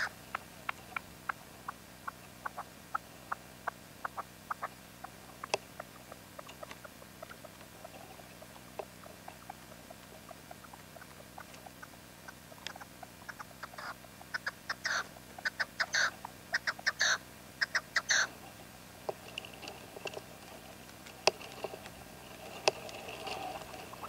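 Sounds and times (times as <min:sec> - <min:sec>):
partridge clicking calls: 0:00.0 - 0:24.0.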